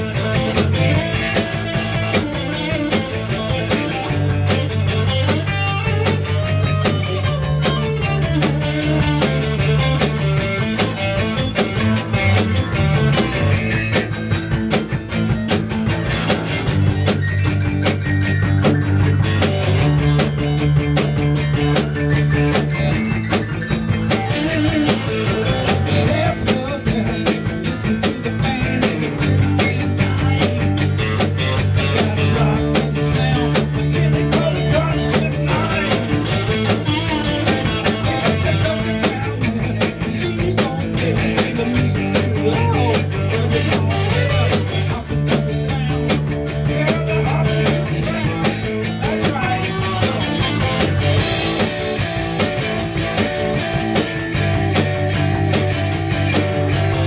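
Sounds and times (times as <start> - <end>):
bending guitar melody: 0.0 - 57.0
drum kit beat: 0.0 - 57.0
electric bass notes: 0.0 - 57.0
rock band playing: 0.0 - 57.0.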